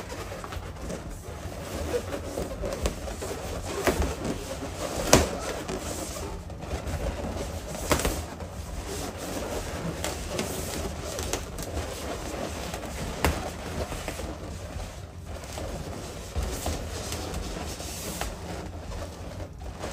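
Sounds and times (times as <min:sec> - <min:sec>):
balloons rubbing and squeaking: 0:00.0 - 0:19.9.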